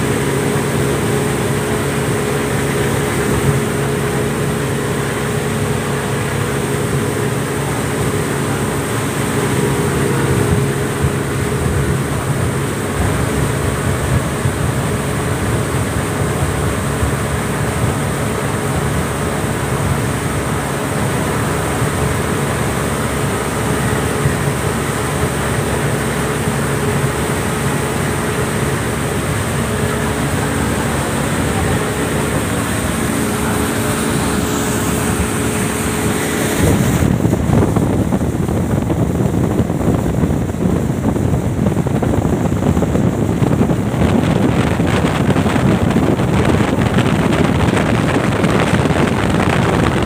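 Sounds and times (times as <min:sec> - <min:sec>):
speedboat engine running: 0:00.0 - 0:50.0
water rushing: 0:00.0 - 0:50.0
wind: 0:00.0 - 0:50.0.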